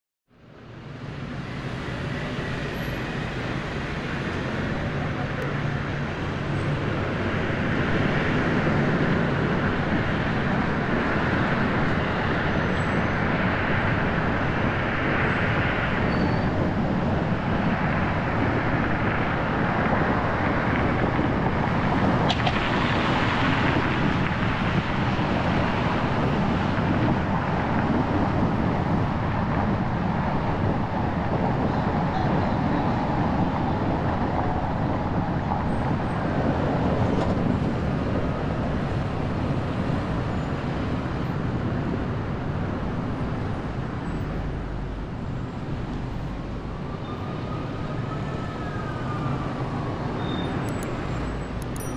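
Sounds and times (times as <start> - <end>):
road and traffic noise: 0.3 - 51.9.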